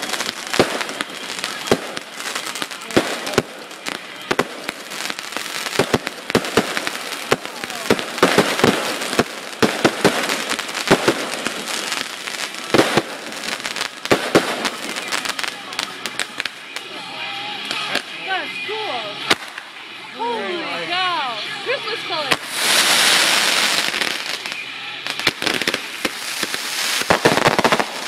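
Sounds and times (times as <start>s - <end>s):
fireworks bangs: 0.0s - 16.9s, 19.2s - 19.7s, 22.3s - 28.0s
fireworks crackling: 0.0s - 28.0s.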